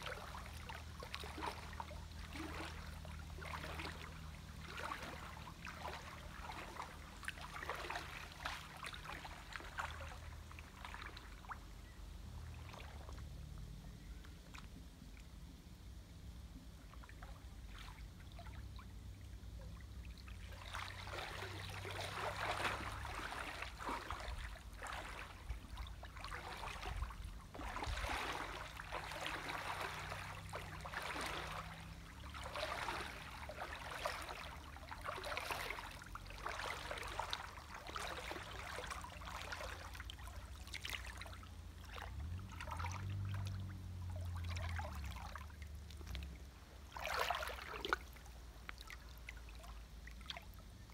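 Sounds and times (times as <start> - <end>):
water splashing around wading legs: 0.0 - 11.7, 12.4 - 13.6, 16.9 - 50.9.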